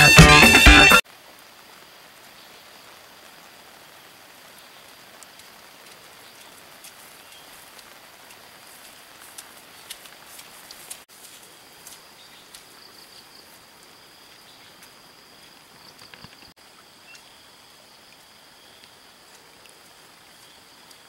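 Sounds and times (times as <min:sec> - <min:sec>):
light rain pattering: 0:01.0 - 0:21.0.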